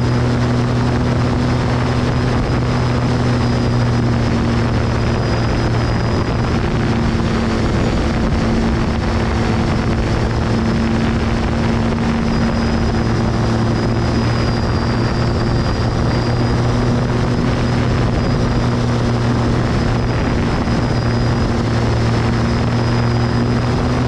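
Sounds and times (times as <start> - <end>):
aircraft engine drone: 0.0 - 24.0
rush of noise: 0.0 - 24.0
thin high whine: 0.0 - 24.0.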